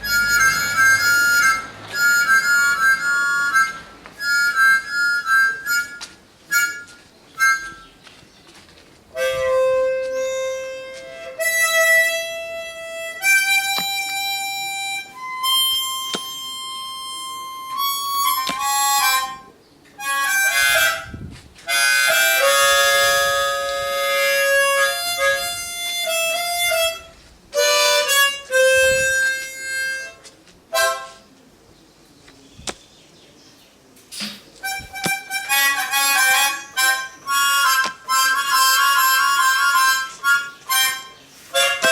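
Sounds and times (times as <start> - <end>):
reedy wind instrument melody: 0.0 - 8.0, 9.1 - 31.3, 34.6 - 41.9.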